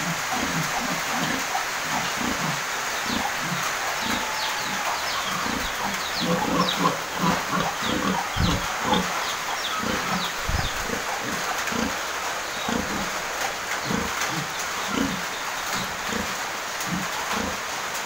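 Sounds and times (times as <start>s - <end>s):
pigs grunting: 0.0s - 18.0s.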